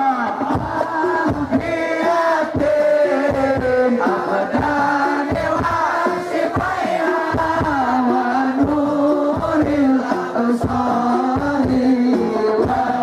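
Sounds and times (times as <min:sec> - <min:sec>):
congregation singing: 0:00.0 - 0:13.0.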